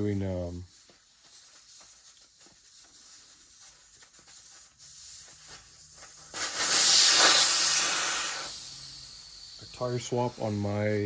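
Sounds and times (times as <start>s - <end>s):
loud steady hiss: 0.0s - 11.0s.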